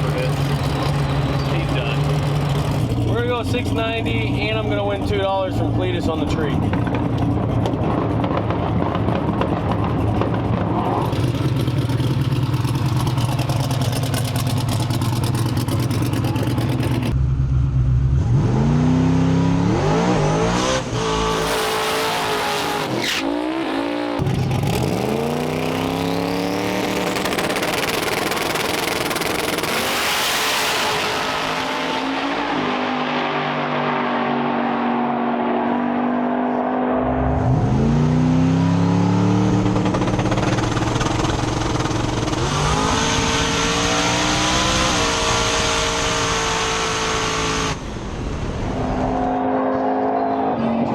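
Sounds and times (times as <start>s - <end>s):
race car engine revving: 0.0s - 17.2s, 17.8s - 50.9s.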